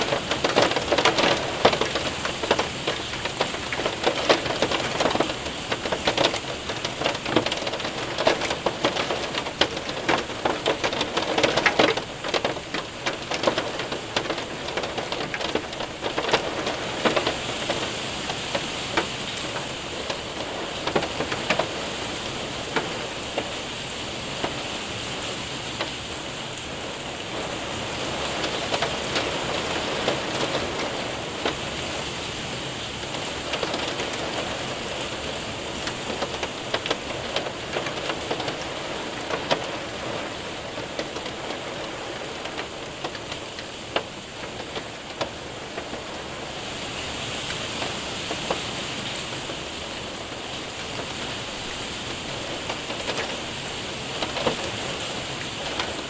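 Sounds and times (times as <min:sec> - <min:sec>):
hailstones ticking: 0:00.0 - 0:56.0
rain on window and roof: 0:00.0 - 0:56.0.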